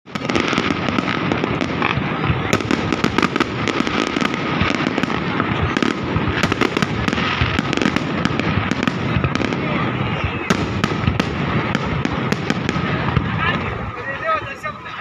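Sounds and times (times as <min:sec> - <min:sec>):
fireworks bangs pops and crackles: 0:00.0 - 0:15.0.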